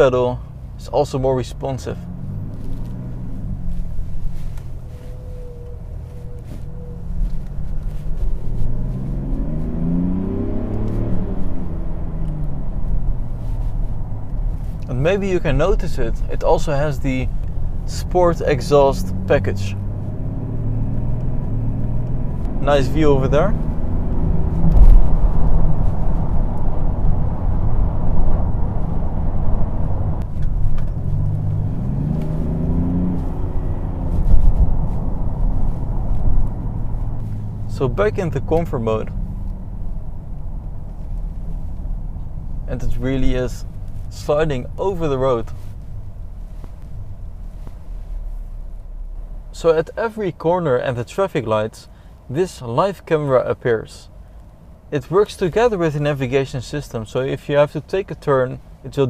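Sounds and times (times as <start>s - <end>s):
diesel engine accelerating: 0.0s - 59.0s
road rumble: 0.0s - 59.0s.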